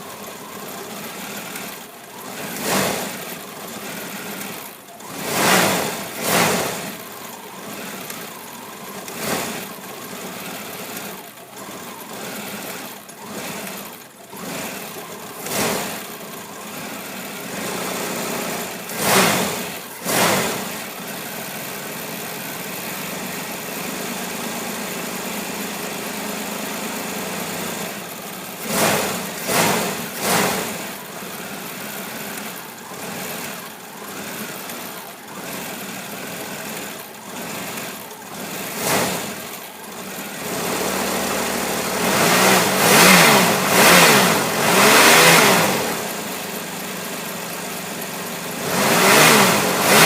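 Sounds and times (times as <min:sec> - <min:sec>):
car engine idling roughly: 0:00.0 - 0:50.0.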